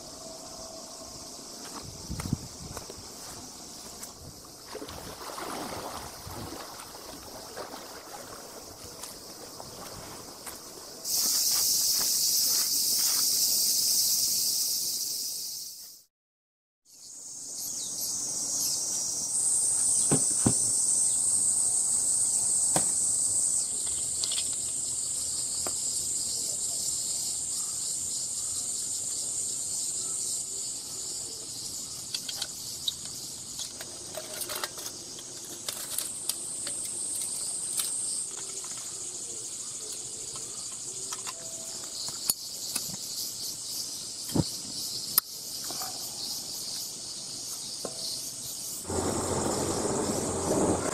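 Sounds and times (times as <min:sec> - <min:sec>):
insects calling in chorus: 0:00.0 - 0:16.0, 0:16.9 - 0:50.9.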